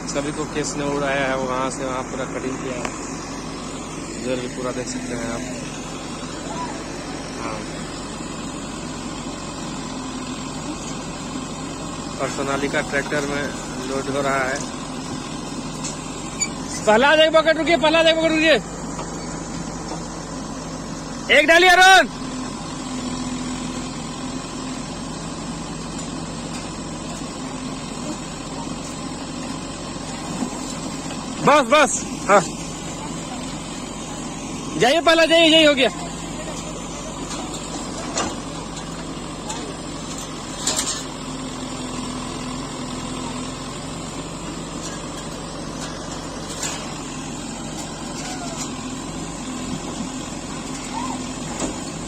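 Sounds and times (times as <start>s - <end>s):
diesel engines running: 0.0s - 52.0s.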